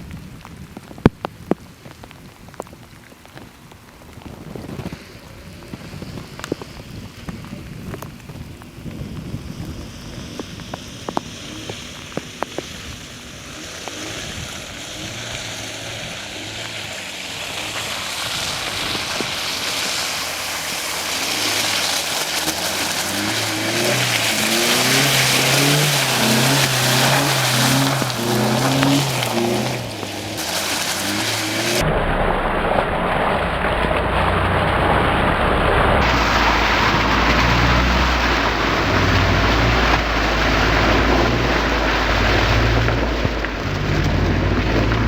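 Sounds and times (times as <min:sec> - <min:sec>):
engine and tyre noise: 0:00.0 - 0:45.0
mud and water hitting car body: 0:00.0 - 0:45.0.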